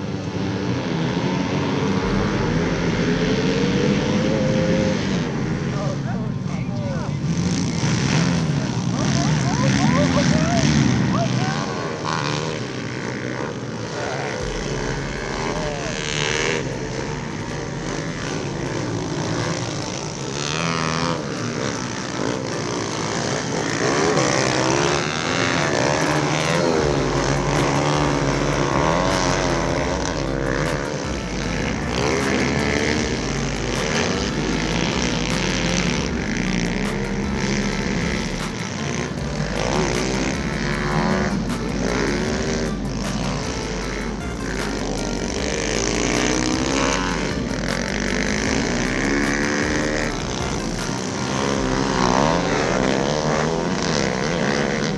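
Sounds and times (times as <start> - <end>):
pit bike engines revving: 0.0 - 54.9.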